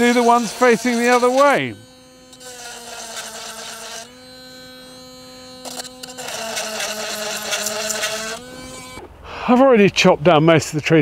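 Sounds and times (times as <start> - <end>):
grinding stone rasping on steel: 0.0 - 9.0
sharpener motor humming: 0.0 - 9.1.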